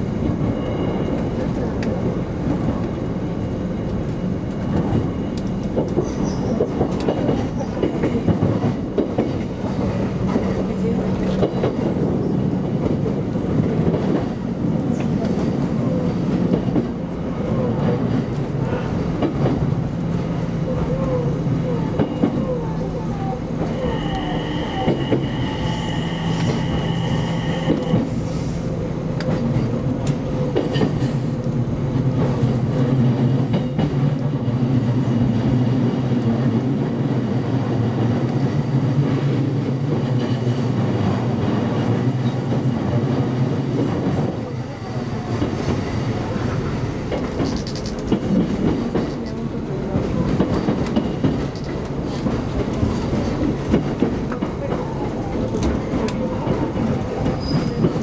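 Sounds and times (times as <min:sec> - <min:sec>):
electric train running hum: 0:00.0 - 0:58.0.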